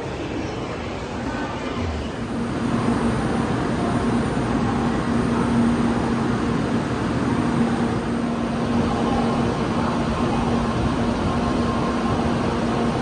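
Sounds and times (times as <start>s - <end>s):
train rumble and hum: 0.0s - 13.0s.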